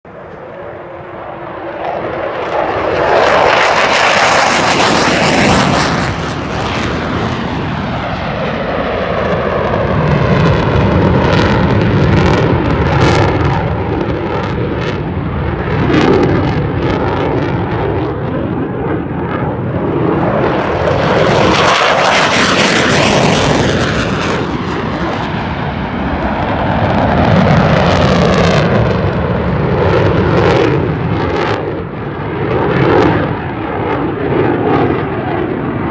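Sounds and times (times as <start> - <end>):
fighter jet engine roaring: 0.1 - 35.9.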